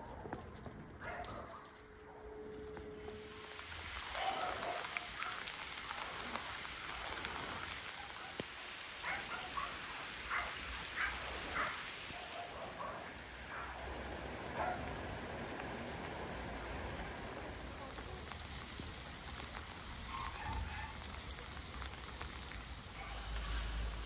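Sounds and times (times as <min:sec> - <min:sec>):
rain on leaves and pond: 0:00.0 - 0:24.0.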